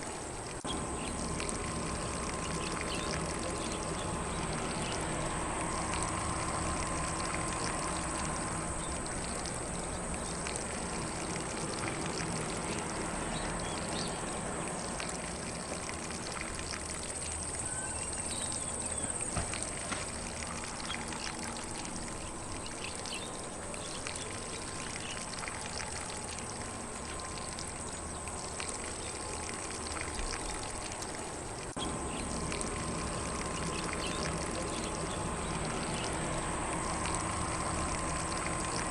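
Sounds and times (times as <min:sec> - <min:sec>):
faint birdsong: 0:00.0 - 0:38.9
sprinkler spraying water: 0:00.0 - 0:38.9.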